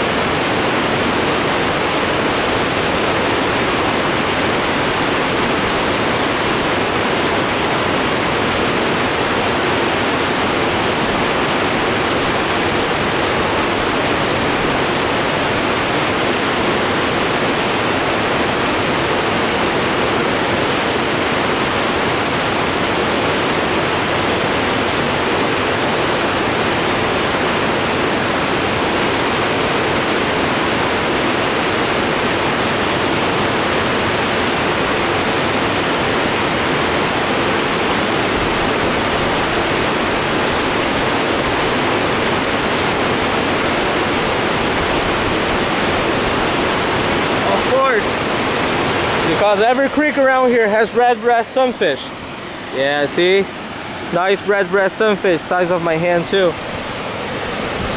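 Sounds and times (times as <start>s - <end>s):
water rushing over rapids: 0.0s - 57.9s.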